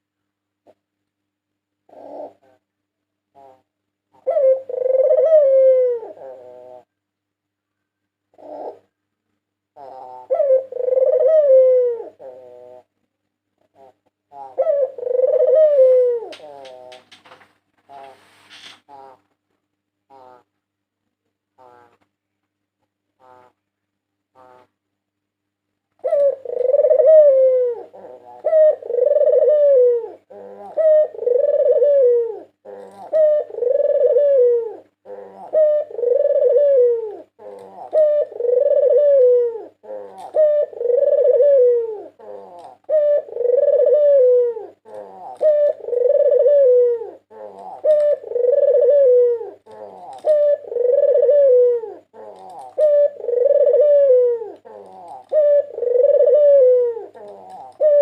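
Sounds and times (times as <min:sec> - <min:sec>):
dove cooing: 0:01.8 - 0:07.0, 0:08.3 - 0:09.0, 0:09.7 - 0:13.0, 0:13.6 - 0:19.3, 0:20.1 - 0:20.5, 0:21.6 - 0:22.0, 0:26.0 - 0:58.0.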